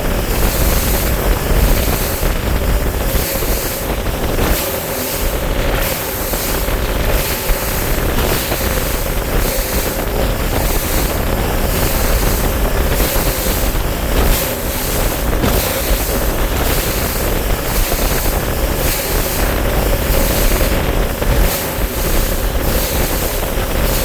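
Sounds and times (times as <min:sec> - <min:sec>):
outboard motor running: 0:00.0 - 0:24.0
water noise from hull: 0:00.0 - 0:24.0
wind buffeting microphone: 0:00.0 - 0:24.0.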